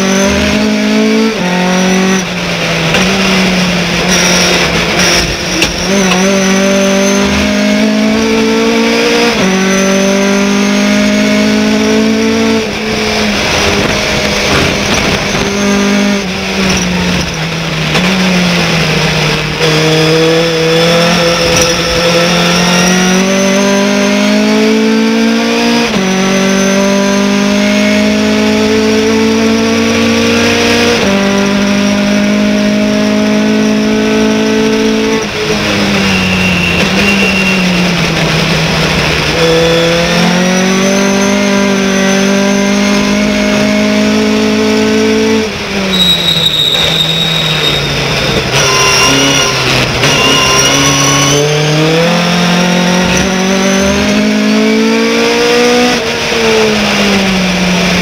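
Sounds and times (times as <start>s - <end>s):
truck engine accelerating: 0.0s - 58.0s.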